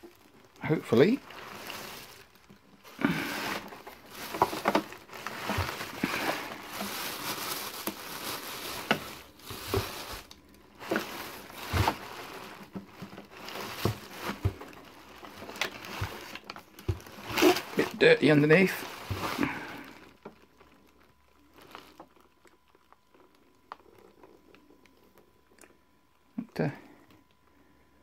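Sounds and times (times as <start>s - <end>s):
plastic bags and paper rustling: 0.0s - 25.3s.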